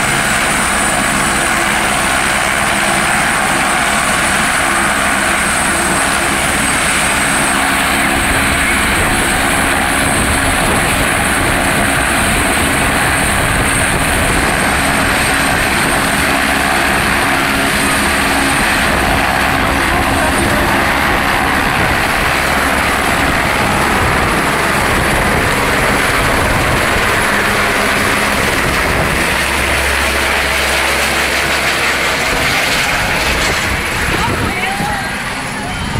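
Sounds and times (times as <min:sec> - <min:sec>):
helicopter rotor and turbine: 0:00.0 - 0:35.9.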